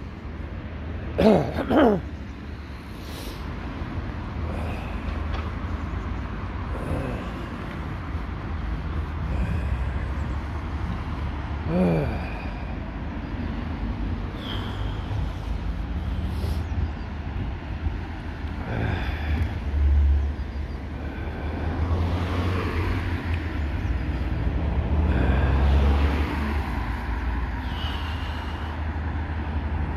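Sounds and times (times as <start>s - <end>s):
passing cars rumbling: 0.0s - 29.9s.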